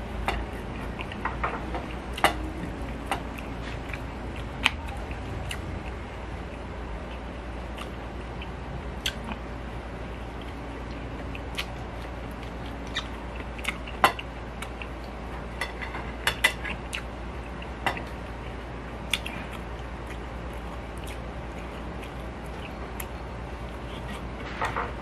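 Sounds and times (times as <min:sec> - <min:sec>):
person chewing: 0:00.0 - 0:24.4
steady low hum: 0:00.0 - 0:25.0.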